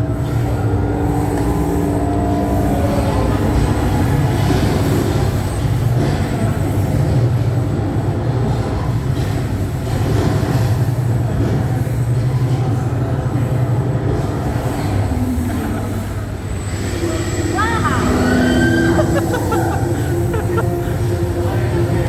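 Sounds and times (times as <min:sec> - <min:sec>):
amusement ride rumbling: 0:00.0 - 0:22.0
low mechanical hum: 0:00.0 - 0:22.0.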